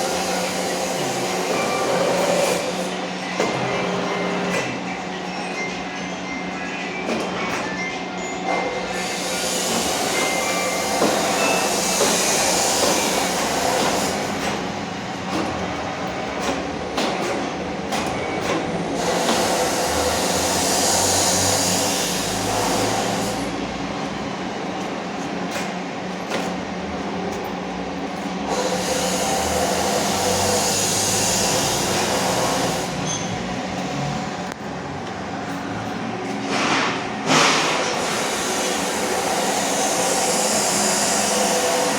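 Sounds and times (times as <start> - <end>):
milling machine humming: 0.0 - 41.9.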